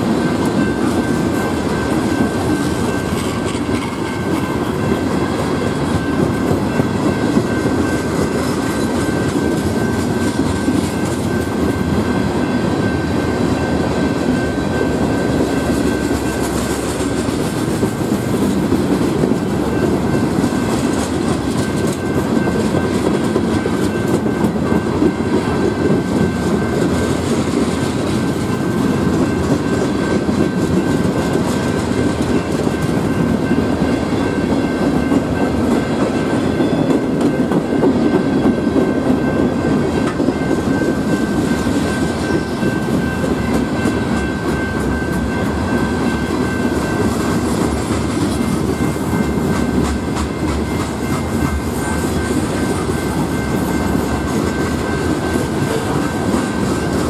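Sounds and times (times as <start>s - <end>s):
clickety-clack over rail joints: 0.0s - 57.0s
freight train wheels rumbling: 0.0s - 57.0s
steady high tone: 0.0s - 57.0s.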